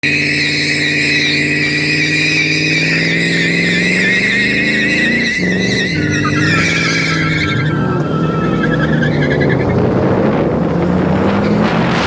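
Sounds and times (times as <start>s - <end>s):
car engine at high revs: 0.0s - 12.0s
tyres squealing: 0.0s - 12.0s.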